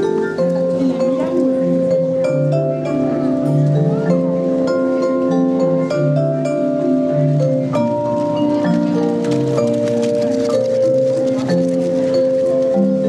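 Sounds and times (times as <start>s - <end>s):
marimba notes: 0.0s - 13.0s
vibraphone notes: 0.0s - 13.0s.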